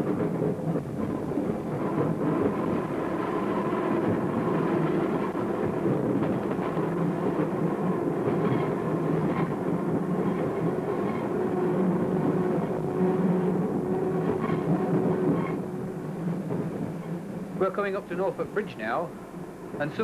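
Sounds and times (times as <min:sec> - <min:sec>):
tram wheel-on-rail rumble: 0:00.0 - 0:20.0.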